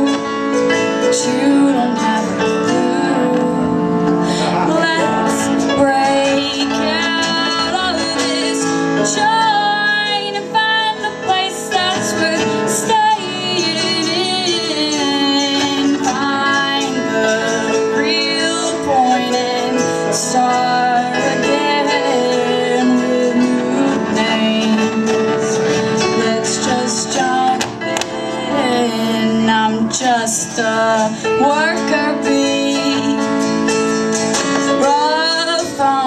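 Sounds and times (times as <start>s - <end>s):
keyboard: 0.0s - 36.0s
strummed acoustic guitar: 0.0s - 36.0s
woman singing: 0.0s - 36.0s.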